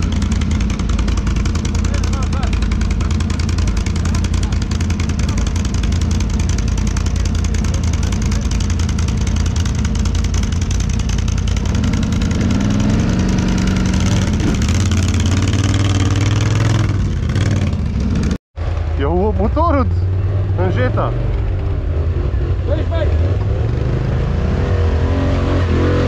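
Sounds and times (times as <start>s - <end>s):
atv engine revving hard: 0.0s - 18.4s, 20.1s - 26.0s
atv engines running: 0.0s - 26.0s.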